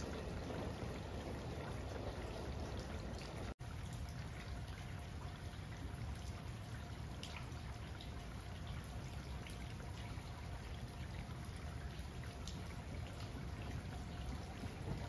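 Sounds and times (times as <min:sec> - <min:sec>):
drips ticking: 0:00.0 - 0:15.0
low steady rumble: 0:00.0 - 0:15.0
rain falling: 0:00.0 - 0:15.0.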